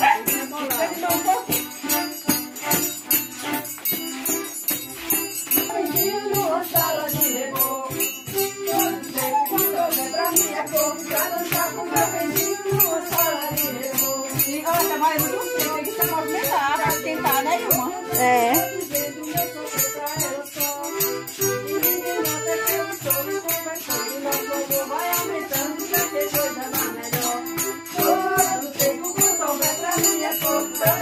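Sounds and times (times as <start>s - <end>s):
music with fast percussion beat: 0.0s - 31.0s.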